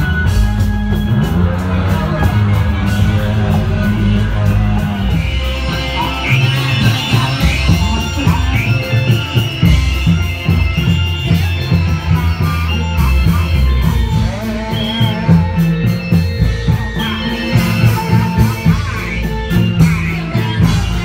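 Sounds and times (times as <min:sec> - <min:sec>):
music with strong bass and beat: 0:00.0 - 0:21.0.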